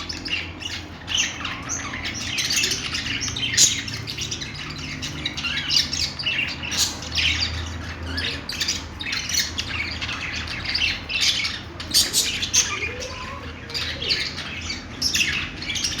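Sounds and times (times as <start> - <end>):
budgerigars chattering and chirping: 0.0 - 16.0.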